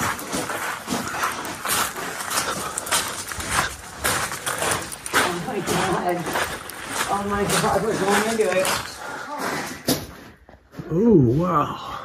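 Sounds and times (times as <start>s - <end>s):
footsteps crunching on gravel: 0.0s - 9.9s.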